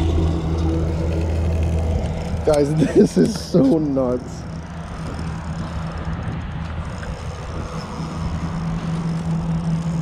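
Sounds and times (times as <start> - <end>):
low motor hum: 0.0 - 10.0
low rumble: 0.0 - 10.0.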